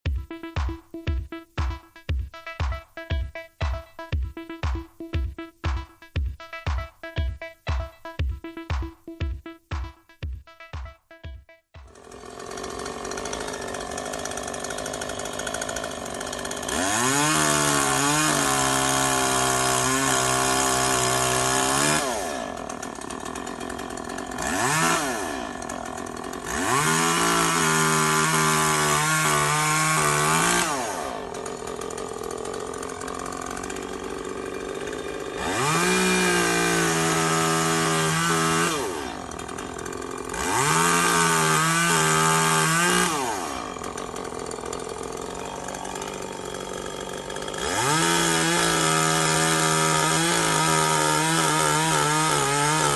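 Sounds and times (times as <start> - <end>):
chainsaw idling and revving: 0.0 - 52.9.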